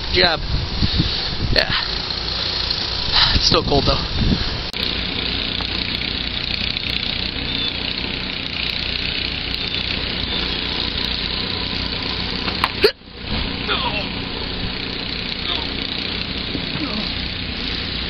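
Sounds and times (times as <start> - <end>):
snowblower engine humming: 0.7 - 3.4, 4.2 - 18.0.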